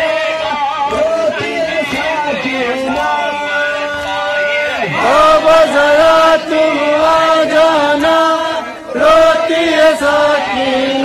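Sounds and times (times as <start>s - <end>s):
men chanting a lament: 0.0s - 11.0s.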